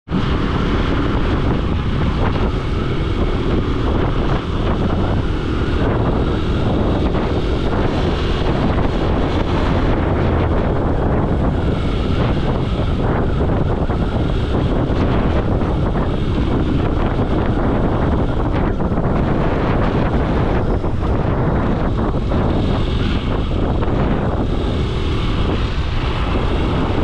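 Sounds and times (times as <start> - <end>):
vehicle road noise: 0.0 - 27.0
wind buffeting microphone: 0.1 - 27.0.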